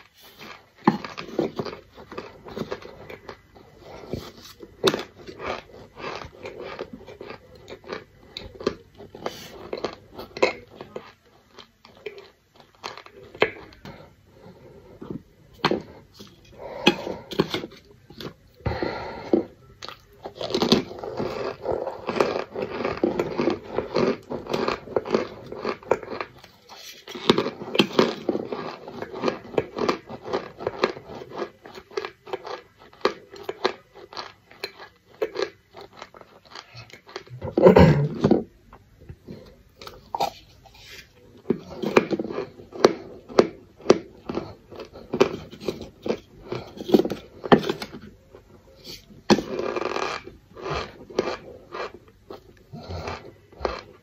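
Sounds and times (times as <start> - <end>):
chewing and crunching: 0.0 - 54.0.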